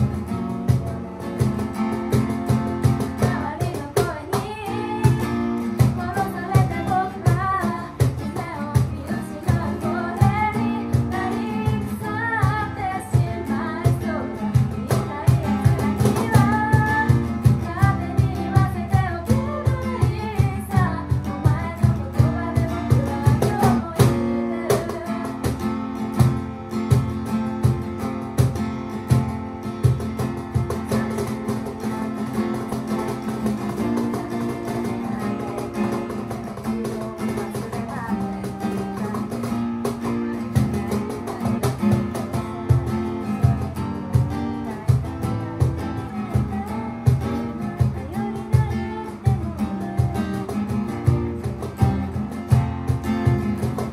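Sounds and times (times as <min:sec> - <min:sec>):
acoustic guitar strummed: 0:00.0 - 0:53.9
cajon beat: 0:00.0 - 0:53.9
woman singing: 0:01.5 - 0:27.0, 0:30.2 - 0:53.9.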